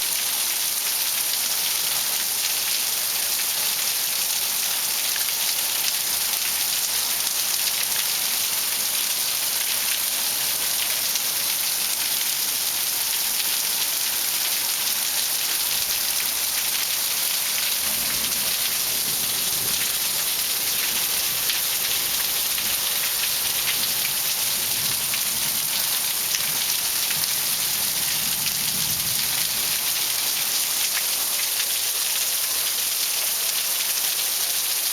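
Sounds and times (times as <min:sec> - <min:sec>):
heavy rain on hard surfaces: 0:00.0 - 0:34.9.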